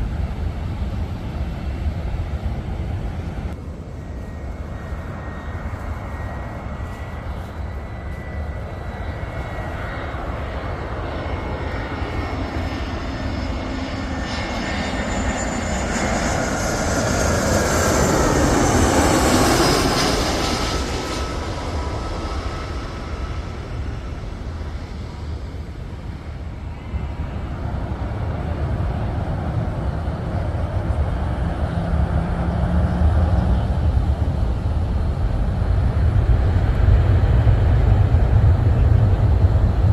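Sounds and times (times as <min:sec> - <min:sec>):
airliner flying overhead: 0:00.0 - 0:39.9
jet engine whine: 0:00.0 - 0:39.9.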